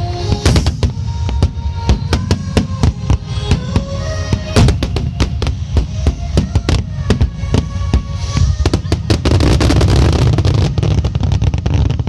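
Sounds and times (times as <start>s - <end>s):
fireworks bangs: 0.0s - 12.0s
music with held notes: 0.0s - 12.0s.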